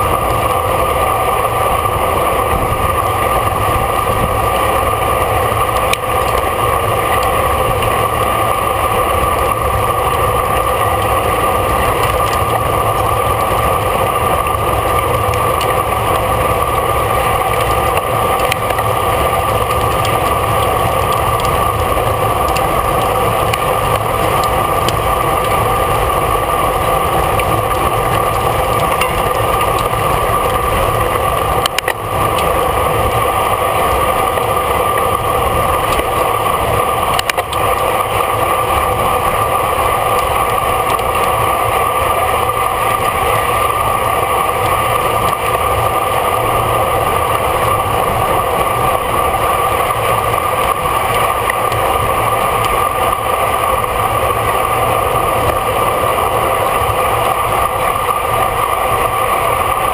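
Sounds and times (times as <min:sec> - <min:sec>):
bicycle road noise: 0:00.0 - 0:59.9
rushing wind: 0:00.0 - 0:59.9.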